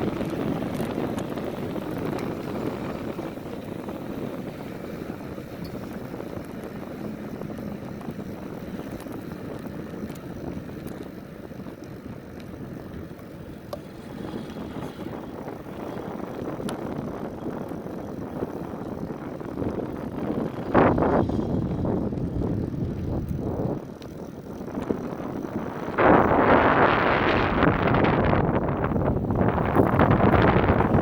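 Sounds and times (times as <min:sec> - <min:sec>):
bike tyre rumble on cement: 0:00.0 - 0:31.0
wind on microphone: 0:00.0 - 0:31.0.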